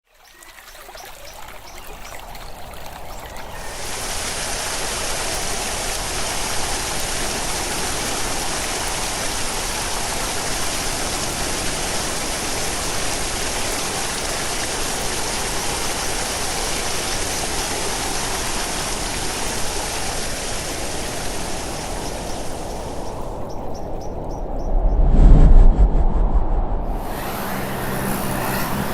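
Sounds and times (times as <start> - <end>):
stream flowing: 0.1 - 24.3, 26.9 - 28.9.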